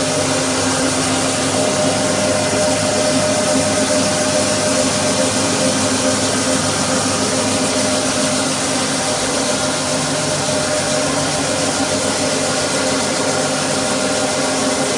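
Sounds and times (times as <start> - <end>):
floor sanding machine humming: 0.0 - 14.9.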